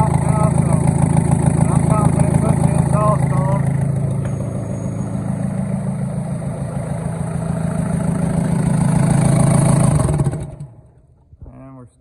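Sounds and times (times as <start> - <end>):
diesel engine running loud: 0.0 - 10.8.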